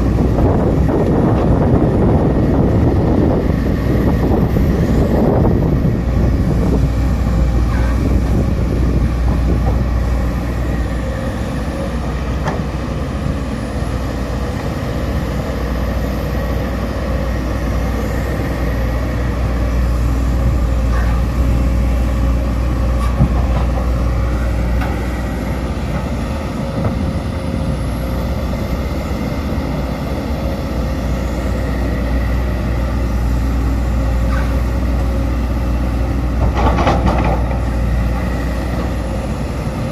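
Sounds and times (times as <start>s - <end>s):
excavator diesel engine hum: 0.0s - 39.9s.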